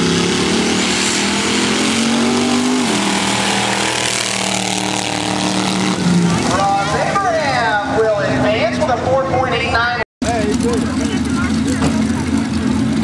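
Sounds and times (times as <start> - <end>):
racing truck engines under throttle: 0.0 - 13.0.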